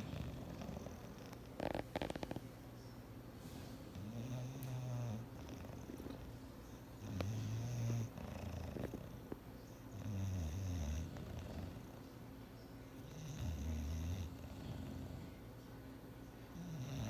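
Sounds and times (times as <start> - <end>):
dog snoring: 0.0 - 2.4, 3.9 - 12.2, 13.0 - 15.4, 16.5 - 17.0.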